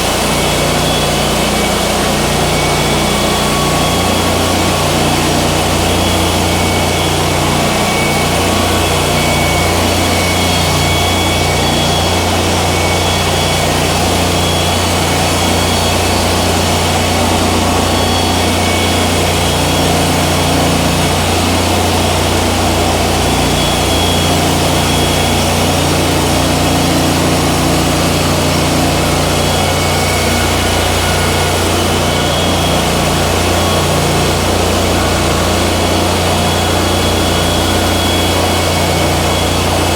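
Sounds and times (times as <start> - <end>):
band sawmill engine humming: 0.0 - 39.9.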